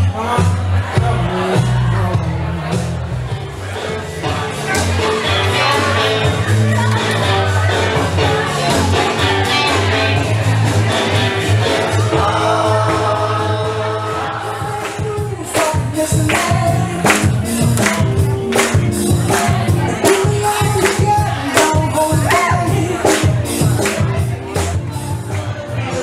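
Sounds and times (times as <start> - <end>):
loud dance music: 0.0 - 26.0.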